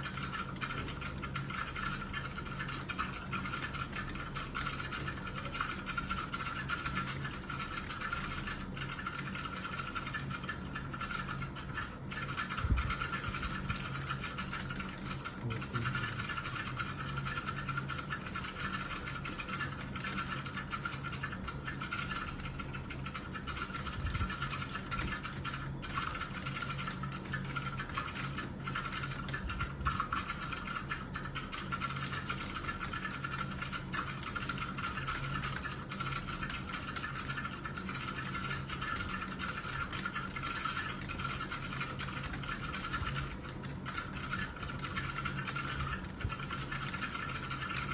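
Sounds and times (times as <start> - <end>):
fast typing on keyboard: 0.0 - 47.9.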